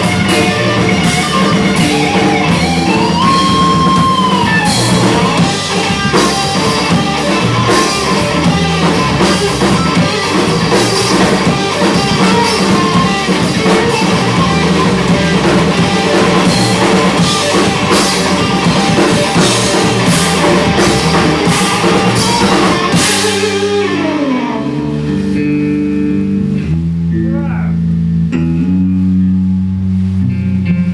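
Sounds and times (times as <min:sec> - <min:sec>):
drum kit: 0:00.0 - 0:27.2
electric guitar: 0:00.0 - 0:30.9.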